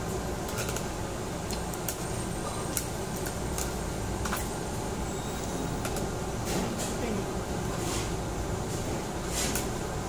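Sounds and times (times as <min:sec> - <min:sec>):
restaurant background noise: 0:00.0 - 0:10.0
ventilation hum: 0:00.0 - 0:10.0.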